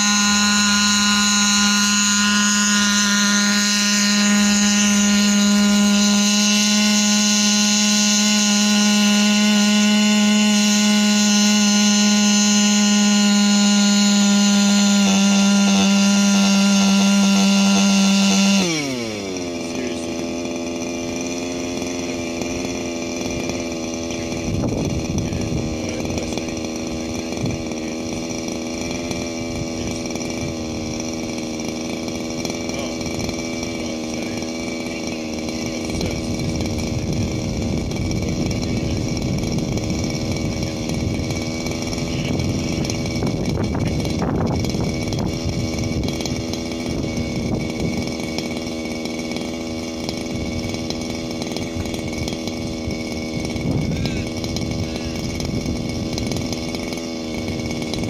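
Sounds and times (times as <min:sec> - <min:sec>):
quadcopter engine and propeller drone: 0:00.0 - 0:58.0.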